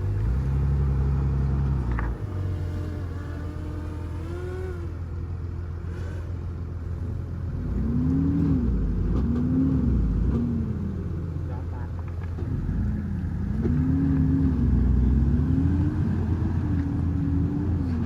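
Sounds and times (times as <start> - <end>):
heavy diesel engine under load: 0.0 - 18.0.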